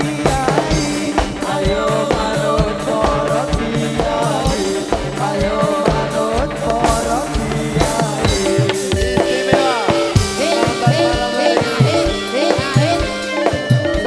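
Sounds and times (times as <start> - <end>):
drum kit beat: 0.0 - 14.0
live band music: 0.0 - 14.0.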